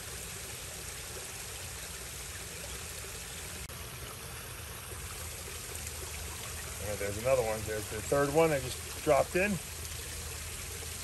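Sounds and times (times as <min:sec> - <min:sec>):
rain on water: 0:00.0 - 0:11.0
running water: 0:00.0 - 0:11.0.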